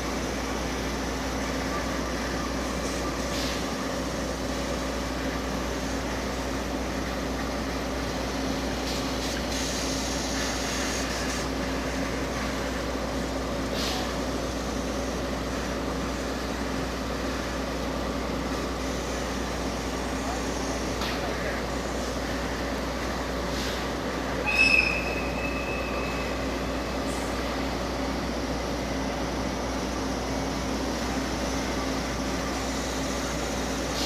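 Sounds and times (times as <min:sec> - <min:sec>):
train mechanical hum: 0:00.0 - 0:34.0.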